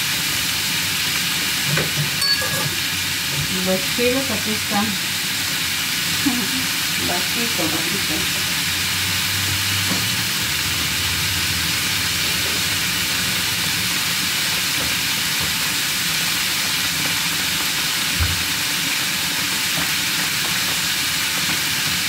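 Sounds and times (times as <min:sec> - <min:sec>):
vegetables sizzling in pans: 0:00.0 - 0:22.0.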